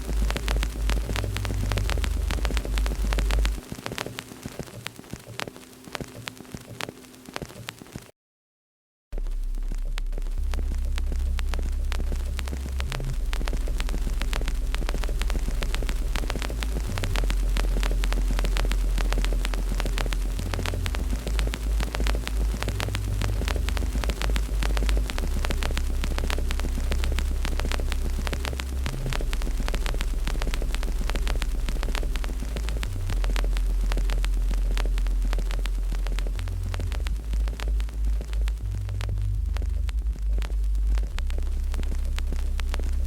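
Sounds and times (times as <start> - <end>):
deep rumble: 0.0 - 3.6, 9.2 - 43.0
wood fire crackling: 0.0 - 8.1, 9.2 - 43.0.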